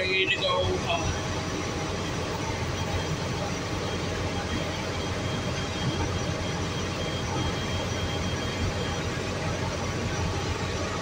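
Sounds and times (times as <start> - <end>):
bus engine rumble: 0.0 - 11.0
faint steady tones: 0.0 - 11.0.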